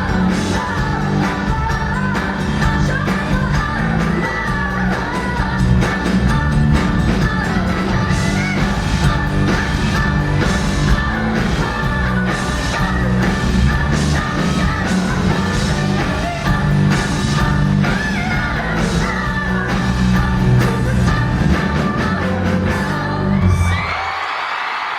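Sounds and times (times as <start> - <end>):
live rock band playing: 0.0 - 23.2
person singing: 0.0 - 24.0.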